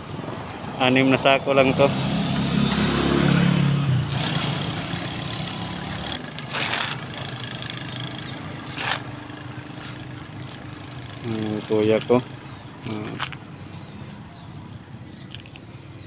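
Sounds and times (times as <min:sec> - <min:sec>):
motor vehicle engine running: 0:02.3 - 0:16.0.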